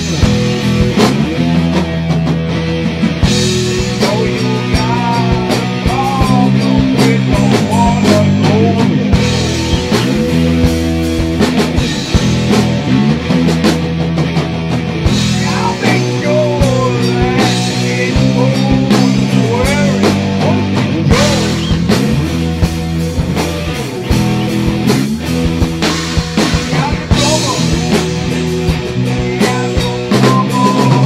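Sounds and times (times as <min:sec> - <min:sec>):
bending guitar lead: 0:00.0 - 0:31.0
rock music: 0:00.0 - 0:31.0
steady bass line: 0:00.0 - 0:31.0.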